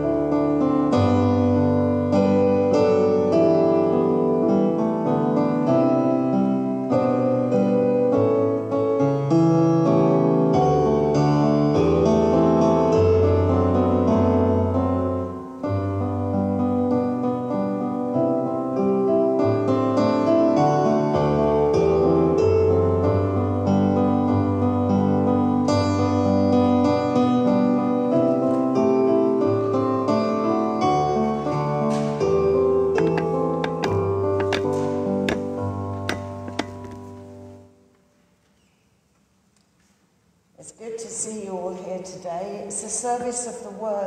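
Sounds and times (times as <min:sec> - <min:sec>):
solo keyboard music: 0:00.0 - 0:37.8.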